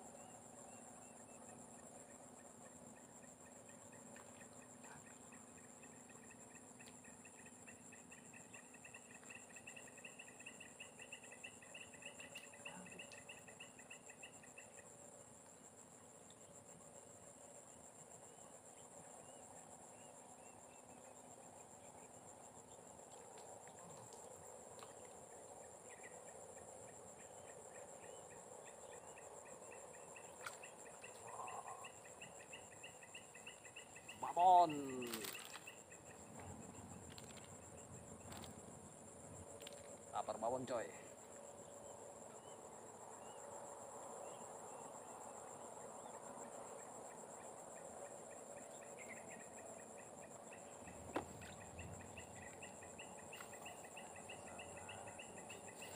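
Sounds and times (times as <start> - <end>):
insect drone: 0.0 - 55.9
pulsing insect trill: 0.0 - 55.9.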